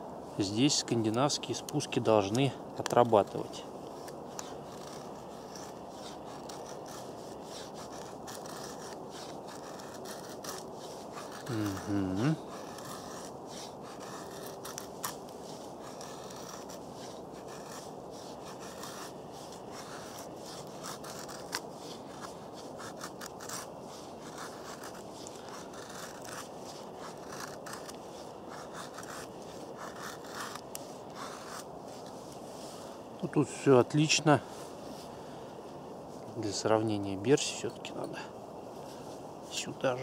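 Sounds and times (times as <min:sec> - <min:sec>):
knife scraping wood: 0:00.6 - 0:35.2.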